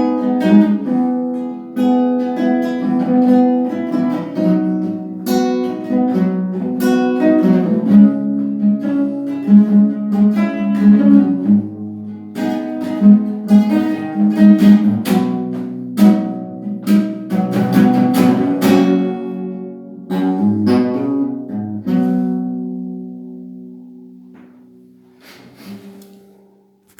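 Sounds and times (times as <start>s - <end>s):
acoustic guitar: 0.0s - 26.9s.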